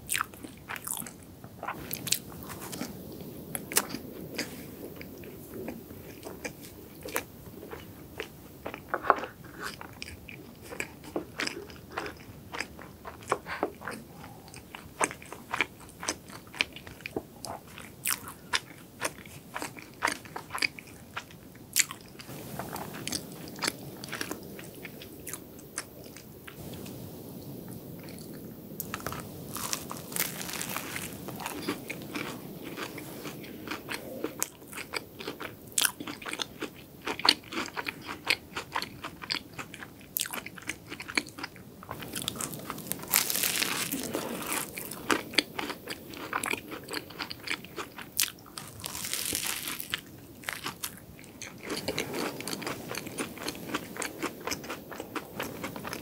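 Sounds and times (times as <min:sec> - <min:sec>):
crisp cookie crunches: 0:00.1 - 0:26.8, 0:28.0 - 0:56.0
chewing: 0:00.1 - 0:56.0.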